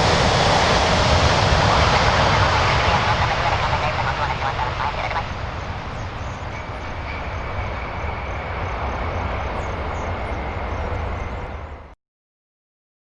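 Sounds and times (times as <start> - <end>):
aircraft engine running: 0.0 - 12.0.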